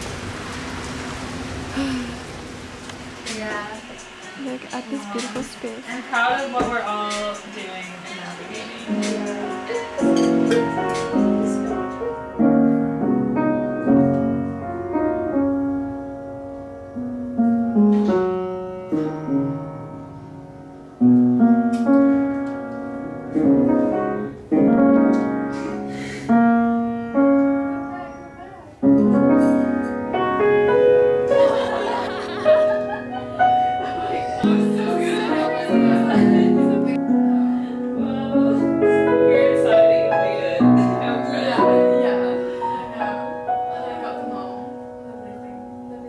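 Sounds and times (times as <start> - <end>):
solo piano: 8.9 - 46.0.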